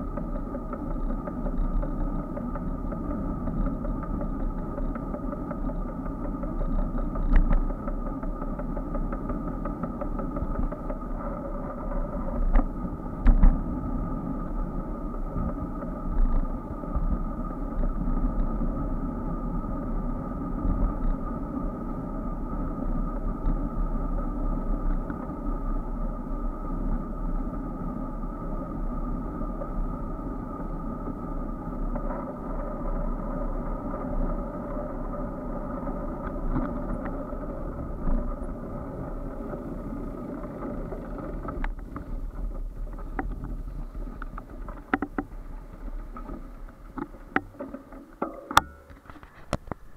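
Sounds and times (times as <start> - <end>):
bicycle ride rumble: 0.0 - 49.9.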